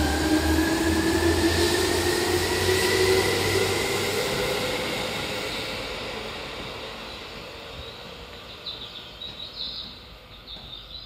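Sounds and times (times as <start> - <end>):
electric train running: 0.0 - 10.9.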